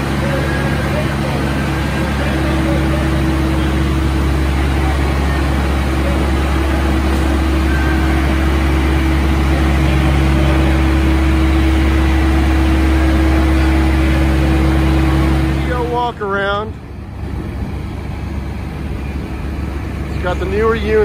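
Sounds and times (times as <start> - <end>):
diesel engine idling: 0.0 - 21.0
refrigeration unit hum: 0.0 - 21.0.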